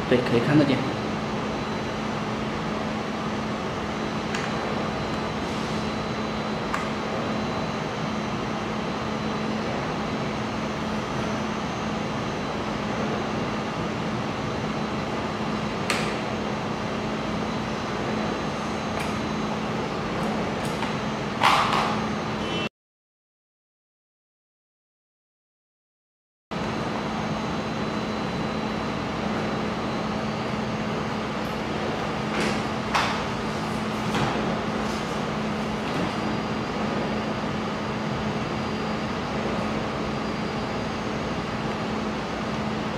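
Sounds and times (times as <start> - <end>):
cooling fans whooshing: 0.0 - 22.5, 26.6 - 42.9.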